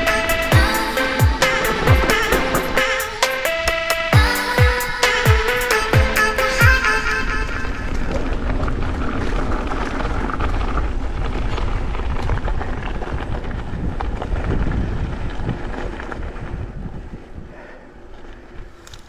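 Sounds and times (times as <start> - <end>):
bike rattling: 0.0 - 19.0
bike tyres rumbling on dirt: 0.0 - 19.0
wind buffeting microphone: 0.0 - 19.0.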